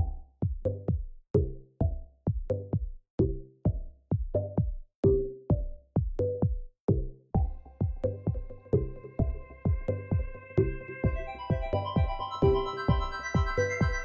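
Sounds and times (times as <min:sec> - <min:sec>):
electronic music with drum machine: 0:00.0 - 0:14.0.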